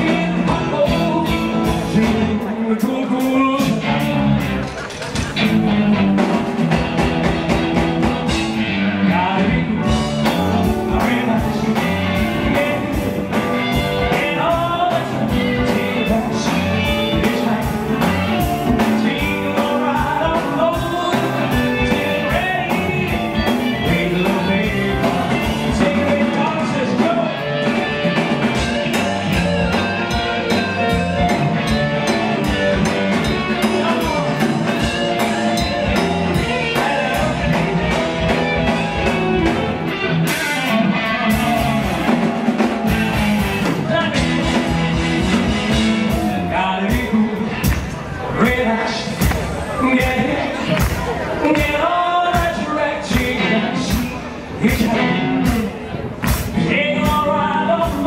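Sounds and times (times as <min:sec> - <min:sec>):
bass guitar: 0:00.0 - 0:58.0
drum kit: 0:00.0 - 0:58.0
electric guitar: 0:00.0 - 0:58.0
keyboards: 0:00.0 - 0:58.0.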